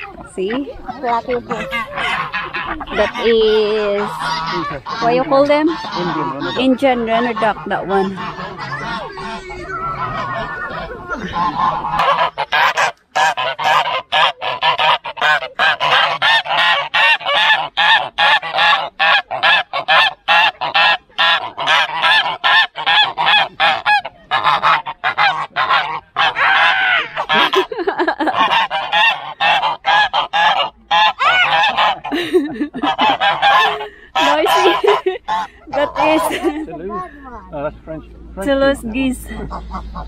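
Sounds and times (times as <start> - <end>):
geese honking: 0.0 - 40.0.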